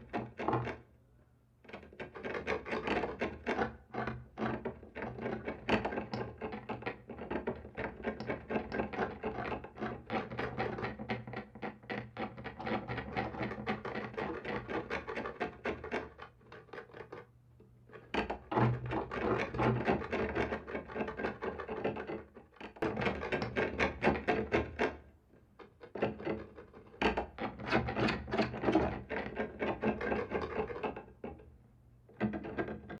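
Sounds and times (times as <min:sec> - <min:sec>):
rasping scratching on a wall: 0:01.7 - 0:17.3, 0:17.9 - 0:31.4.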